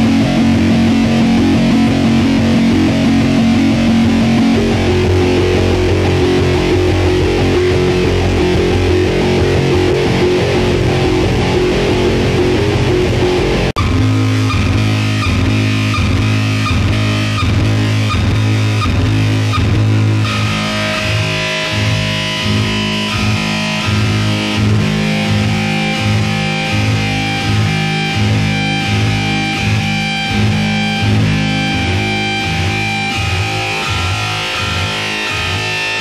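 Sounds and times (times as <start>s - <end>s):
distorted electric guitar and bass: 0.0s - 36.0s.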